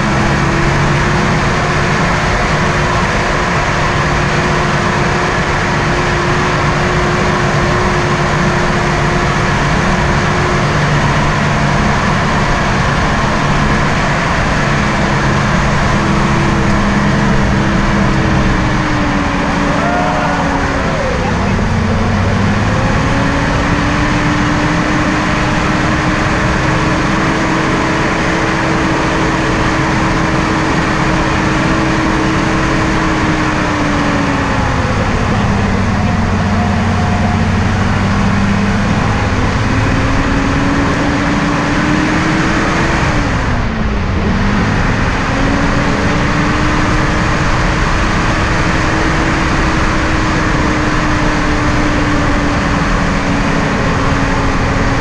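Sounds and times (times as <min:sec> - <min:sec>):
heavy rushing noise: 0:00.0 - 0:55.0
off-road vehicle engine: 0:00.0 - 0:55.0.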